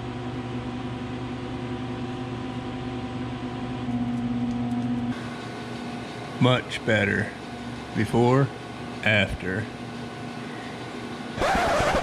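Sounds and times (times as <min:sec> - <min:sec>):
electrical machine hum: 0:00.0 - 0:12.0.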